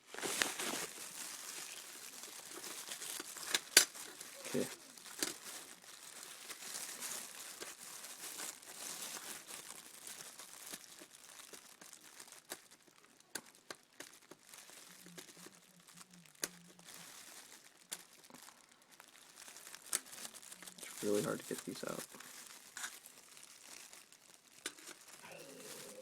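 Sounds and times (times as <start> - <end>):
handling rustling: 0.0 - 12.6, 16.3 - 26.0.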